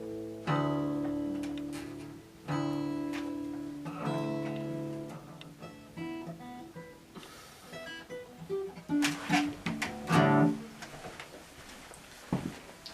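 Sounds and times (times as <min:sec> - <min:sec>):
guitar picking single notes: 0:00.0 - 0:10.8
guitar chords strummed: 0:00.0 - 0:10.9.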